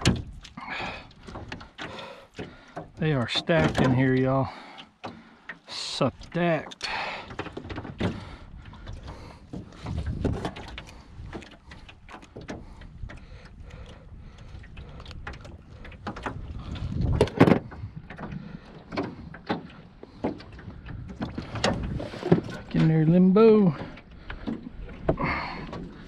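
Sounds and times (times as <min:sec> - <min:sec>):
tools clicking and rattling in metal boat: 0:00.0 - 0:26.0.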